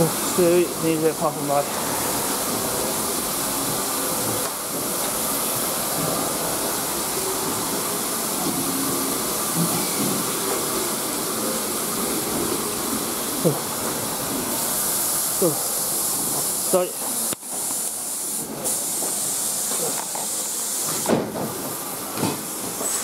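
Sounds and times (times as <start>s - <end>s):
steam locomotive hiss: 0.0s - 23.0s.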